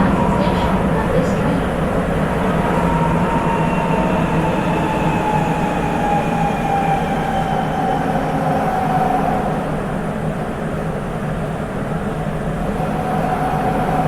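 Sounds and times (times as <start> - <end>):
train inverter whine: 0.0 - 14.0
train running noise: 0.0 - 14.0.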